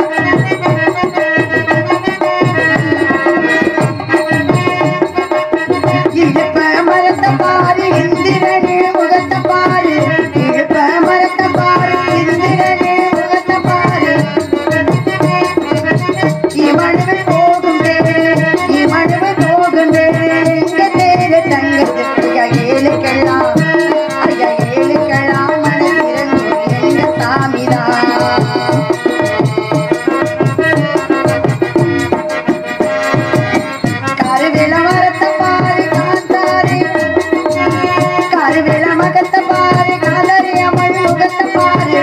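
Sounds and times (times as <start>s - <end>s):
hand drums beating: 0.0s - 42.0s
held melodic accompaniment: 0.0s - 42.0s
woman singing into a microphone: 0.0s - 42.0s.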